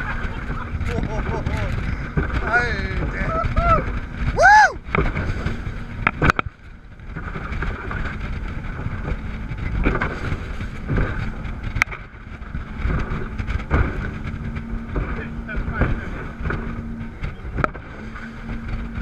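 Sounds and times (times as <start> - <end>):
hull slapping against waves: 0.0 - 19.0
outboard motors humming: 0.0 - 19.0
water rushing past boat: 0.0 - 19.0
wind buffeting microphone: 0.0 - 19.0.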